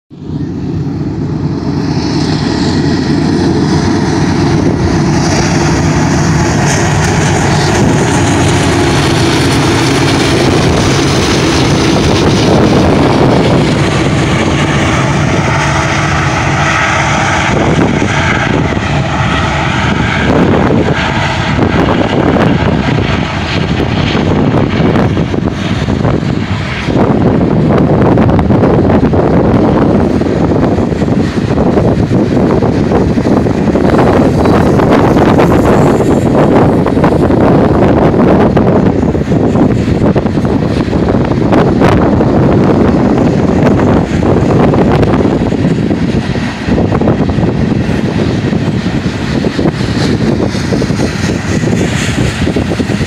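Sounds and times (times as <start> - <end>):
diesel locomotives passing: 0.1 - 53.0
freight car wheels rumbling: 0.1 - 53.0.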